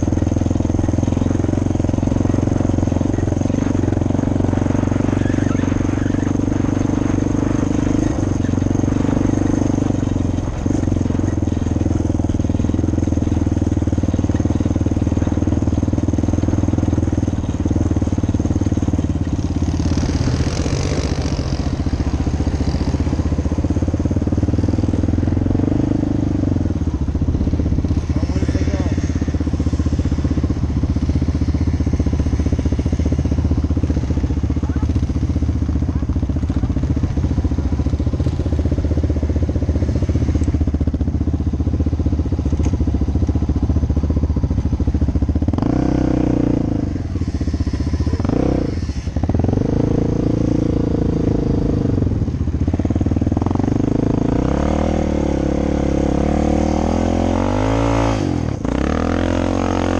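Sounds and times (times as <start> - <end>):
quad engine idling and revving: 0.0 - 59.9.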